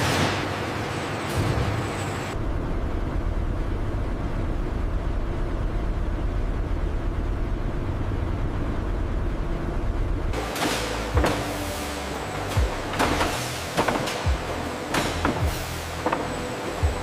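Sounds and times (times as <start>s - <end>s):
low machinery rumble: 0.0s - 17.0s.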